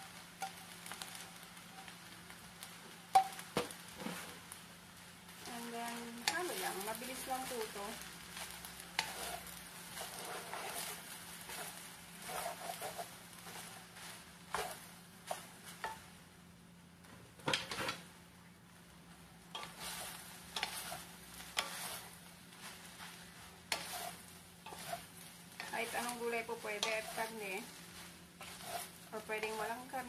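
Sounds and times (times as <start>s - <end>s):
light sizzle: 0.0s - 30.0s
spatulas scraping and knocking pan: 0.2s - 2.0s, 3.1s - 4.5s, 5.5s - 16.1s, 17.4s - 18.1s, 19.5s - 30.0s.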